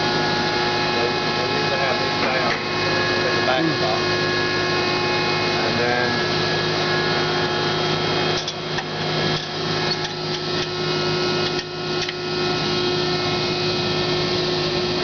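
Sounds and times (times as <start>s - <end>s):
hydraulic press humming: 0.0s - 15.0s.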